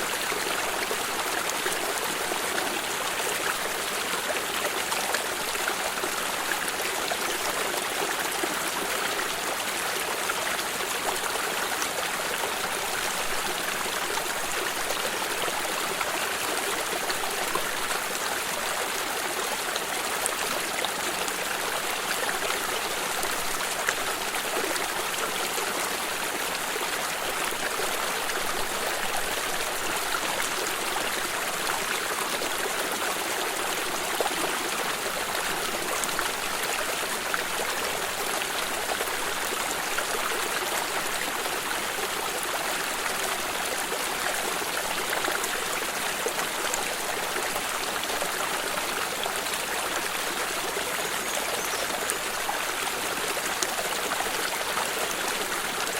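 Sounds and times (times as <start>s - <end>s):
water stream rushing: 0.0s - 55.9s.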